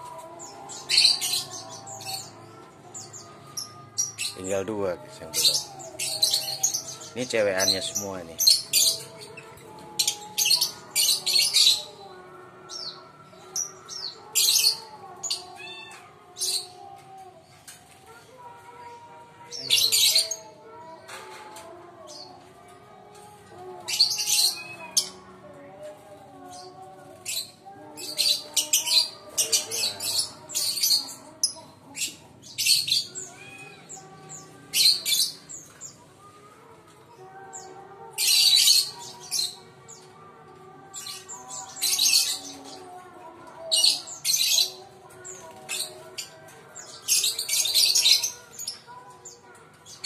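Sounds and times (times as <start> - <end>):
birds shrieking: 0.0 - 50.0
soft wavering bird chatter: 0.0 - 50.0.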